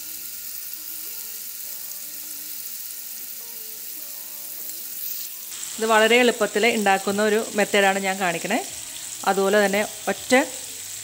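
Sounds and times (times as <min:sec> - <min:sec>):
chicken sizzling in pan: 0:00.0 - 0:11.0.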